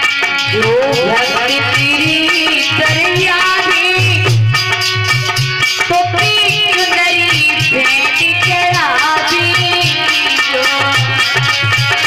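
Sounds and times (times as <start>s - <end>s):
hand drum rhythm: 0.0s - 12.0s
harmonium chords: 0.0s - 12.0s
woman singing devotional song: 0.5s - 4.6s, 5.8s - 11.9s.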